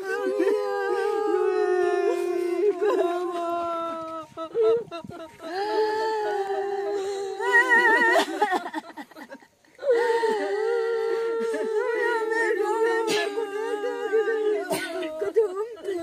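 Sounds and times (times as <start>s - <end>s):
woman wailing: 0.0s - 8.8s, 9.8s - 16.0s.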